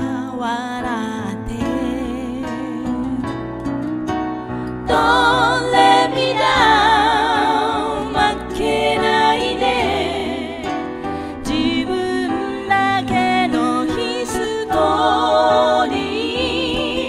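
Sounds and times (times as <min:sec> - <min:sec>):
woman singing a slow ballad: 0:00.0 - 0:03.8, 0:04.9 - 0:17.0
nylon-string guitar: 0:00.0 - 0:17.0
piano: 0:00.0 - 0:17.0.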